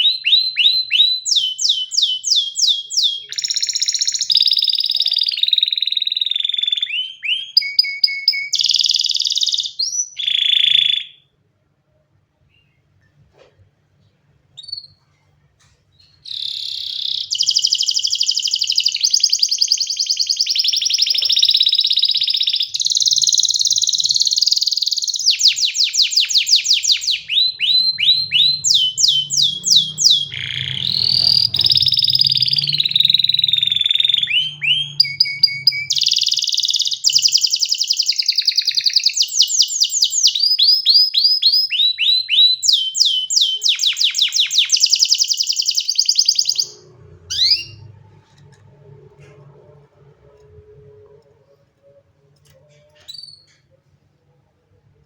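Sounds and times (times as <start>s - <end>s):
canary singing trills: 0.0s - 11.2s, 16.0s - 53.8s.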